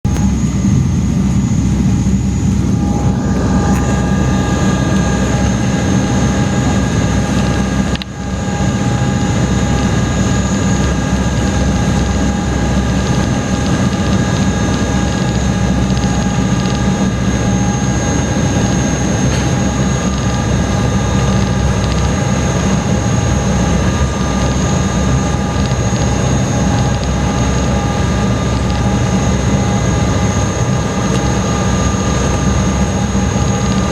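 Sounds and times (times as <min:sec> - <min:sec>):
ferry engines droning: 0:00.0 - 0:33.9.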